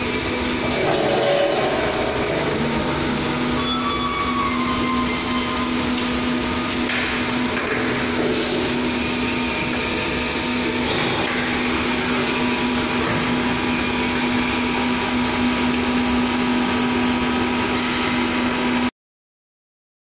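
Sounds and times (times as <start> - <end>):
motor and pump hum: 0.0 - 18.9.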